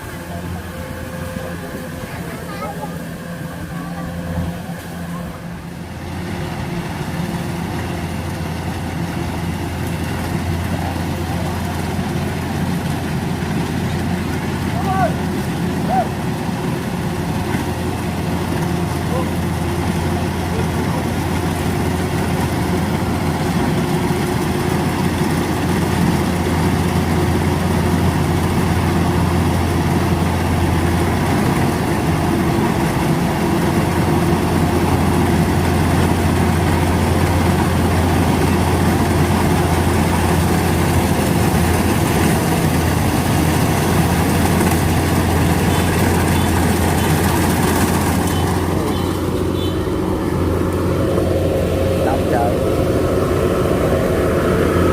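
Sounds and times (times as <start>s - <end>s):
diesel engine humming: 0.0s - 54.9s.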